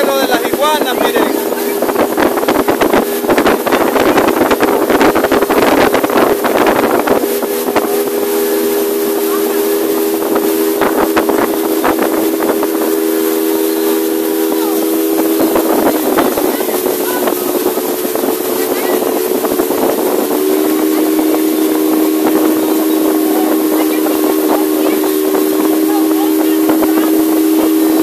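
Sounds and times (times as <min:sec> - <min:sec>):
outboard motor droning: 0:00.0 - 0:28.0
wind buffeting microphone: 0:00.0 - 0:28.0.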